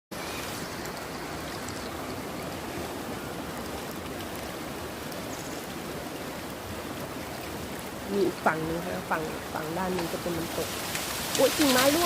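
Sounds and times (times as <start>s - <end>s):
water rushing over a waterfall: 0.2s - 12.0s.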